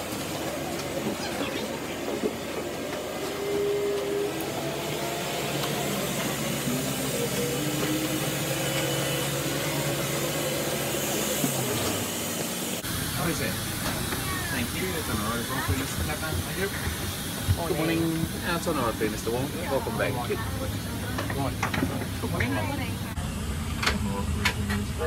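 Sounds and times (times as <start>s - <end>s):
aircraft air systems humming: 0.0s - 25.0s.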